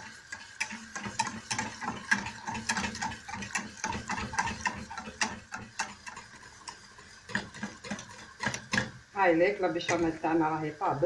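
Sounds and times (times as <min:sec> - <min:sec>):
wire whisk clicking against saucepan: 0:00.0 - 0:09.0.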